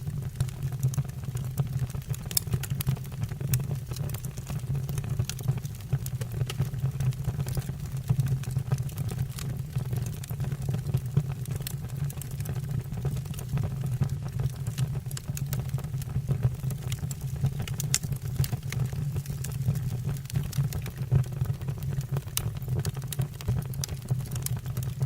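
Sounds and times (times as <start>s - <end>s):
fire low rumble: 0.0s - 25.0s
logs crackling and popping: 0.0s - 25.0s.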